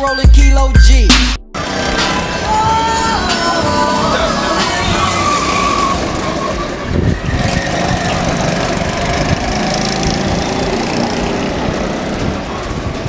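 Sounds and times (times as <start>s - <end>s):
go-kart engines droning: 1.6s - 13.0s.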